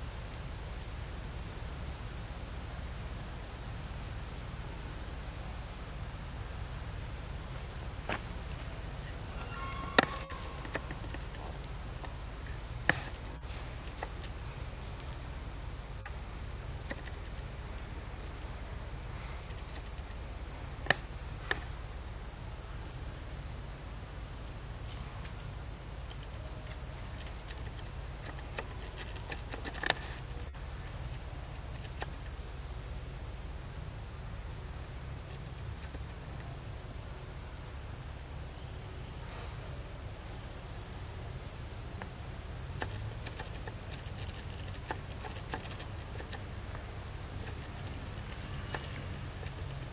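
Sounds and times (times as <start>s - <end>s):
insects chirping: 0.0s - 49.9s
low steady rumble: 0.0s - 49.9s.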